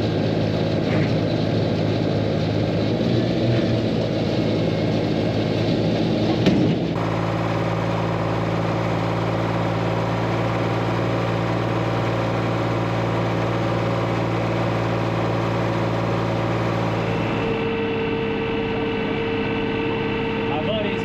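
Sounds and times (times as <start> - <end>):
tractor engine humming: 0.0 - 21.0.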